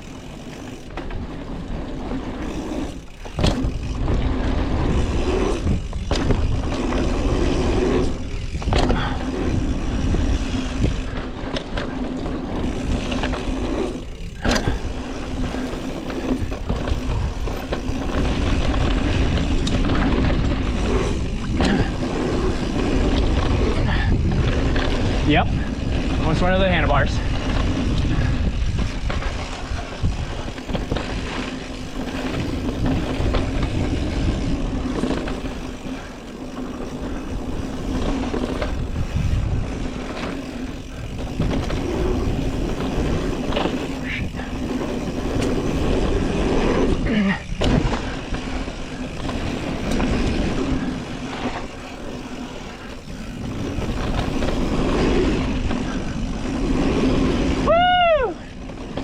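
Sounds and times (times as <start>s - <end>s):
bike rattling and knocking: 0.0s - 59.0s
tyres rolling over dirt: 0.0s - 59.0s
wind rush on microphone: 2.4s - 11.6s, 12.4s - 59.0s.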